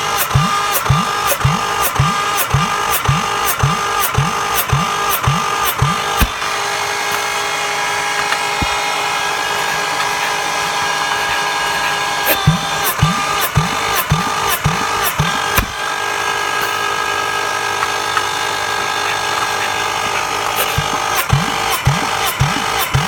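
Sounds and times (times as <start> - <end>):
engine cranking rhythmically: 0.0 - 23.0
steady engine whir: 0.0 - 23.0.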